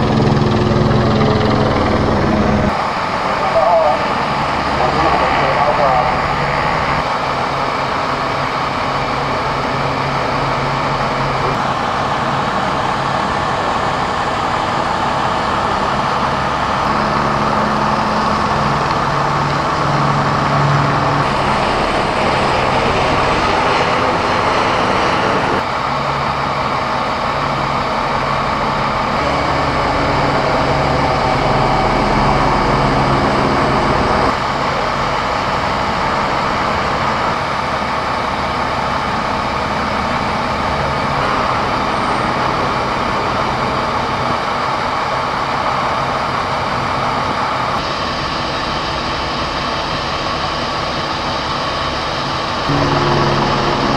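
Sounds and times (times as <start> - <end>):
engine drone with low hum: 0.0 - 53.9.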